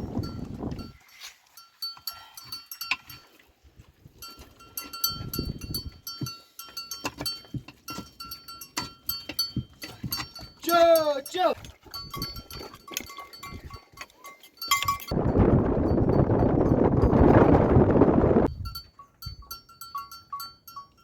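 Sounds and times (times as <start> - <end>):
livestock bells tinkling: 0.0 - 3.4, 4.2 - 17.4, 18.5 - 21.0.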